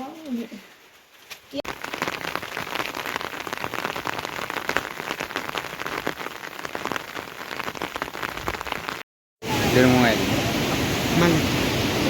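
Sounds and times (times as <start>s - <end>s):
heavy rain falling: 1.7s - 12.0s.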